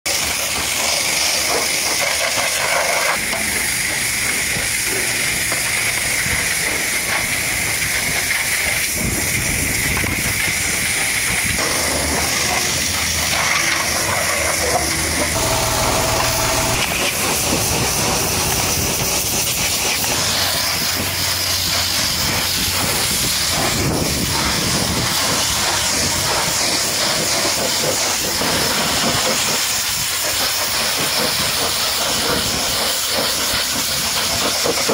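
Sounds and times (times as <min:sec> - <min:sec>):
pressure washer spraying water: 0:00.1 - 0:34.9.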